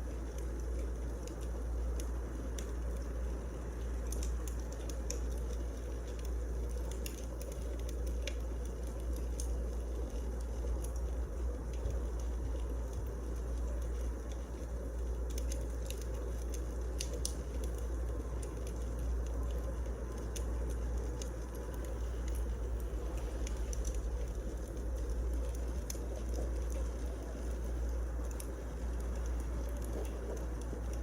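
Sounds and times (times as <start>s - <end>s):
wood fire burning: 0.0s - 31.0s.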